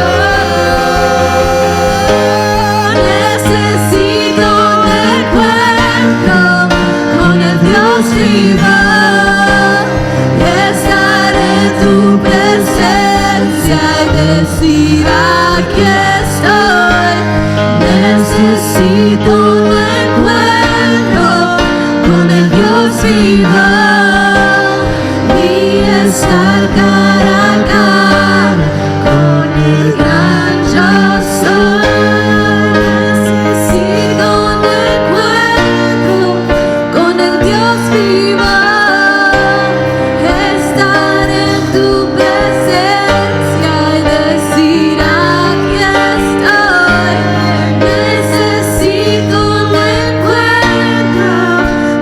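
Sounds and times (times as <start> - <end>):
instrumental chords and bass: 0.0 - 52.0
person singing: 0.0 - 52.0.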